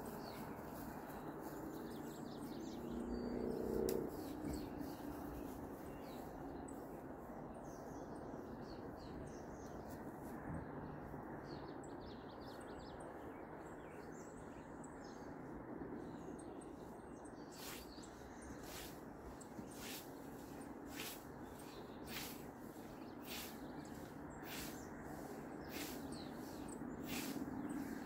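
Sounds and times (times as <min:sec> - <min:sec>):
wild birds chirping: 0:00.0 - 0:28.0.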